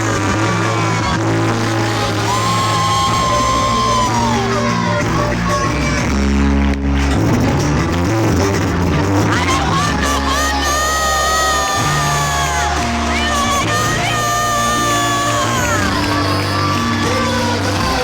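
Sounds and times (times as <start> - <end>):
crowd noise: 0.0 - 18.0
loud music with bass line: 0.0 - 18.0.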